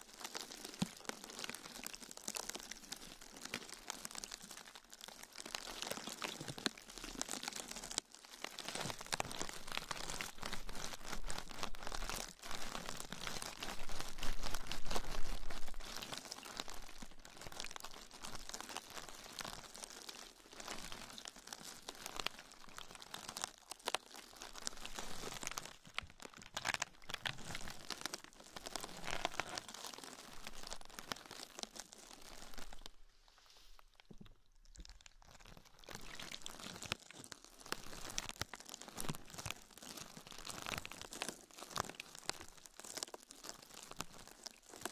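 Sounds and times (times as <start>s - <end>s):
small crinkles and crackles: 0.0s - 44.9s.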